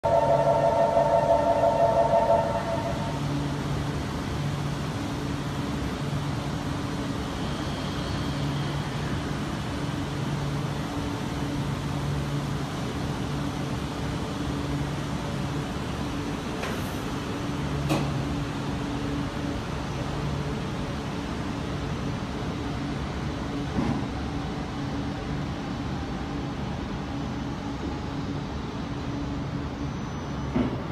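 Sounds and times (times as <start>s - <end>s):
train noise at platform: 0.0s - 30.9s.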